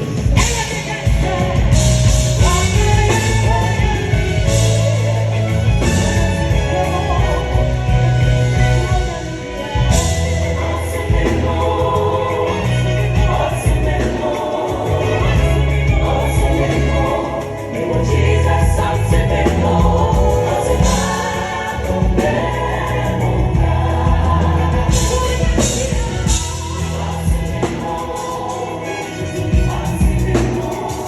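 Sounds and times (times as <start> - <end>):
group singing: 0.0 - 31.0
heavy bass line: 0.0 - 31.0.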